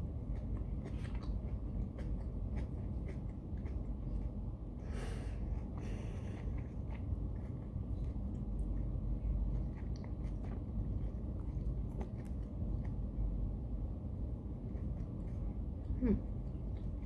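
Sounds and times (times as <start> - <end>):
person chewing and smacking food: 0.0 - 17.0
steady low hum: 0.0 - 17.0.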